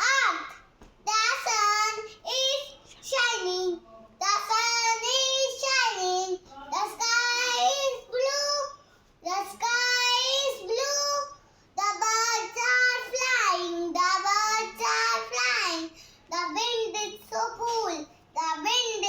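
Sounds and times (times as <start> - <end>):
child singing: 0.0 - 19.0.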